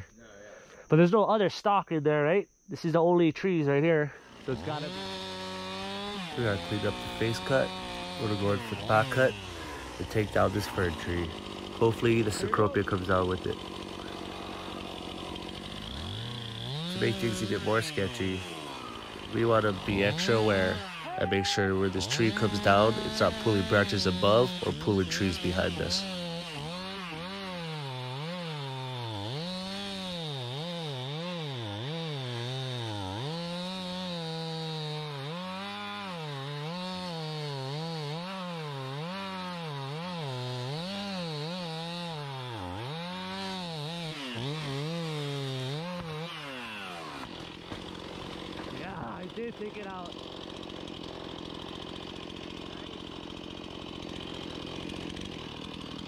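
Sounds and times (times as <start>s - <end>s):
chainsaw cutting wood: 4.1s - 56.0s.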